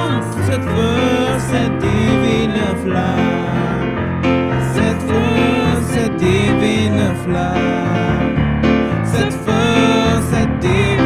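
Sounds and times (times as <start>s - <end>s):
electric keyboard chords: 0.0s - 11.0s
person singing a hymn: 0.0s - 11.0s.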